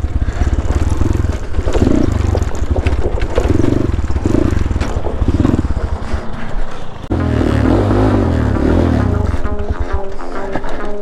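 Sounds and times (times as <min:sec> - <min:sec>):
dirt bike engine revving: 0:00.0 - 0:10.9.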